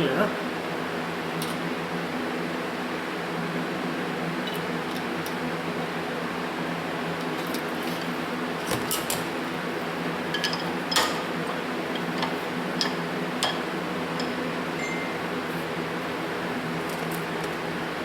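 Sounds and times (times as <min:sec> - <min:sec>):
shop fan humming: 0:00.0 - 0:18.0.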